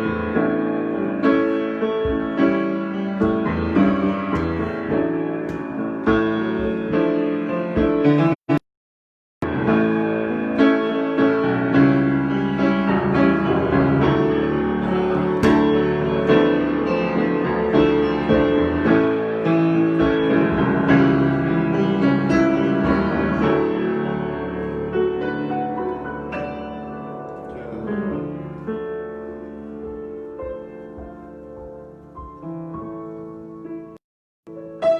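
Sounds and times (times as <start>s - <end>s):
solo piano improvisation: 0.0s - 8.4s, 9.4s - 34.9s.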